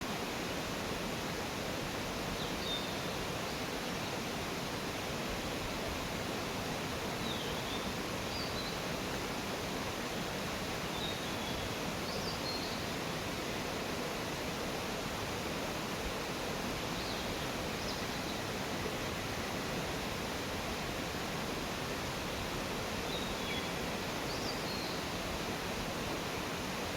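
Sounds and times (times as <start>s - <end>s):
mountain stream rushing: 0.0s - 26.9s.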